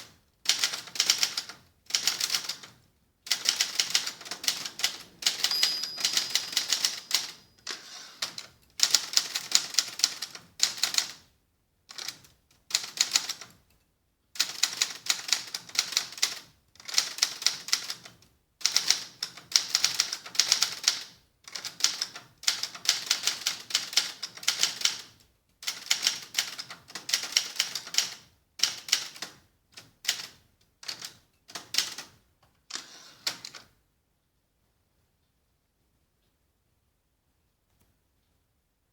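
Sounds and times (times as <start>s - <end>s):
manual typewriter typing: 0.5s - 11.2s, 11.9s - 13.6s, 14.4s - 33.6s.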